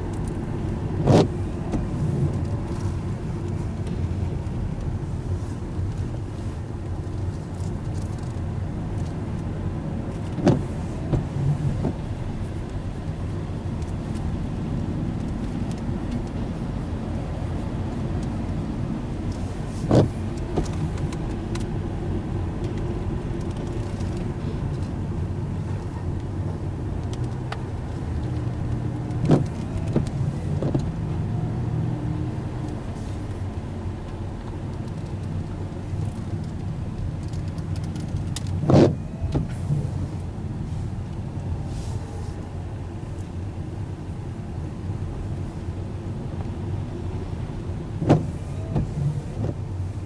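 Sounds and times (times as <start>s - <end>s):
car engine and tyre hum: 0.0s - 50.0s.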